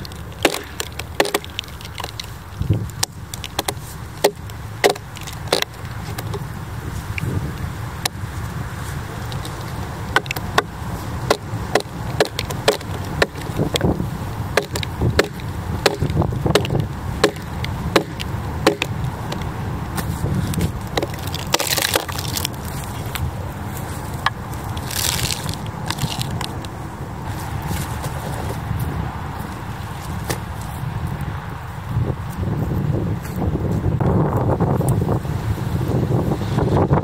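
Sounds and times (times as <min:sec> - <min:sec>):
log cracking and snapping: 0:00.0 - 0:30.7
hissing rustles: 0:00.0 - 0:33.4.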